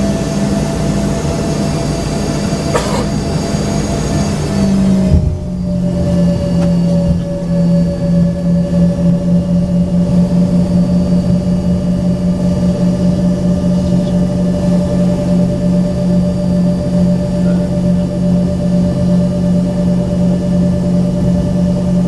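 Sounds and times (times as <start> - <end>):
jet engines drone in cabin: 0.0 - 22.0.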